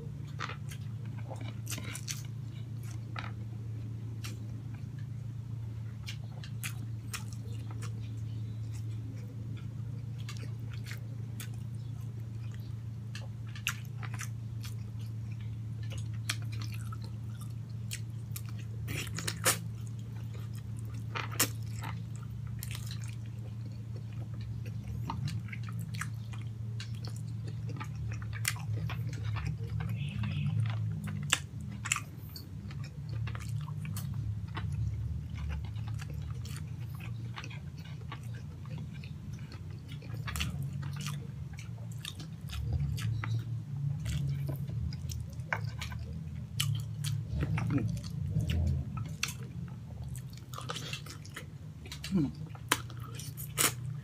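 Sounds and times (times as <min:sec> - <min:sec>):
close-up chewing: 0:00.0 - 0:54.0
steady low hum: 0:00.0 - 0:54.0.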